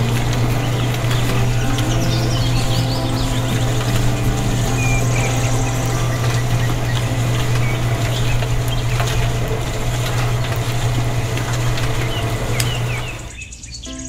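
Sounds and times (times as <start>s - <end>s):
small motor humming: 0.0s - 13.4s
birds chirping: 0.0s - 14.0s.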